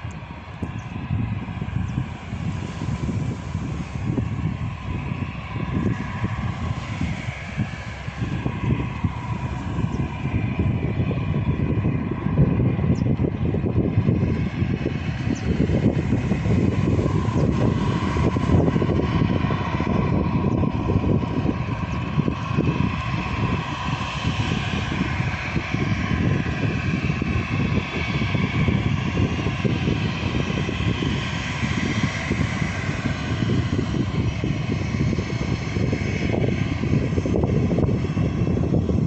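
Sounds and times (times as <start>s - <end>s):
jet engines whining: 0.0s - 39.0s
low rumble: 0.0s - 39.0s.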